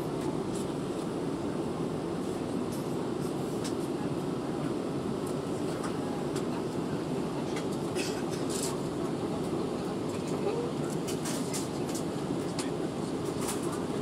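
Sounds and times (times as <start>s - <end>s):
airplane cabin roar in flight: 0.0s - 14.0s.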